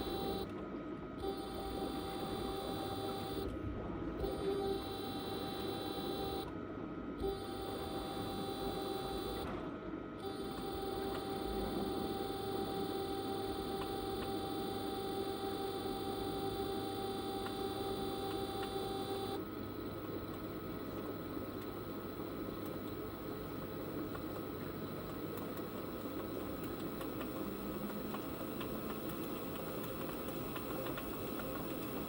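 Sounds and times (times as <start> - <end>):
washing machine motor whine: 0.0 - 32.0.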